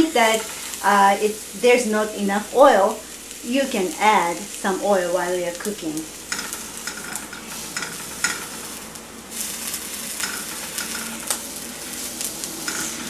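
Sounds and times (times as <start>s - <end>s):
eggplant sizzling in oil: 0.0s - 13.0s.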